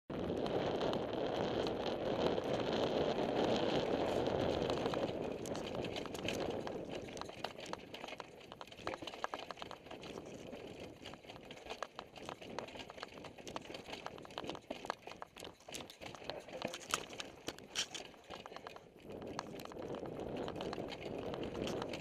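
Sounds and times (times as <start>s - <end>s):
mountain bike rattling on rocks: 0.3s - 22.0s.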